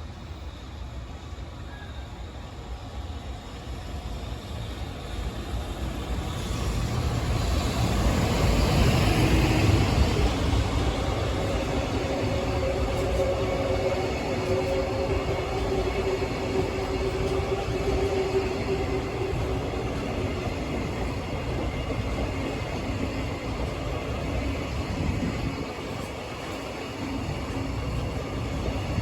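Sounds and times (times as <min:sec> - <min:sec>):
freight train rumbling on rails: 0:00.0 - 0:29.0.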